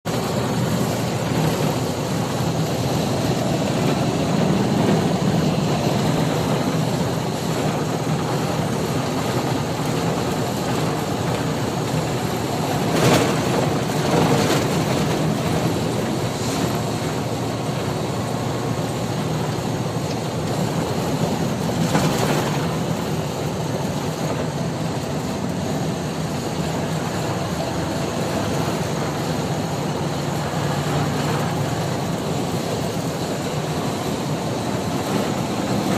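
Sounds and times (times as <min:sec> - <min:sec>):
moving truck engine and road noise: 0:00.0 - 0:35.9.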